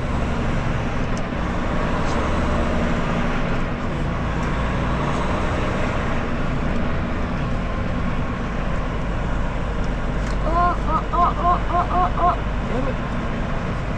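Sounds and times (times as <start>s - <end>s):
diesel truck engine running: 0.0s - 13.9s
road and traffic noise: 0.0s - 13.9s.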